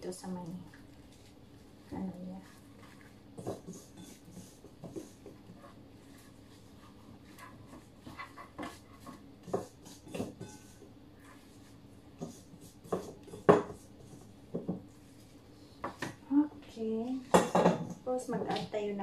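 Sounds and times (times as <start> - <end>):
wet rubbing of raw chicken: 0.2 - 15.8.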